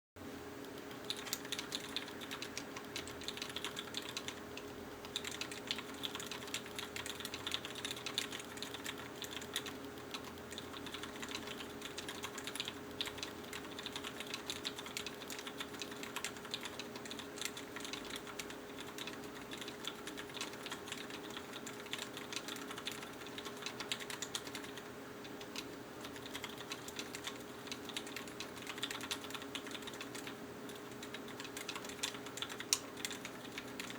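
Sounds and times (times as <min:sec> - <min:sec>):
mechanical keyboard typing: 0:00.6 - 0:33.9.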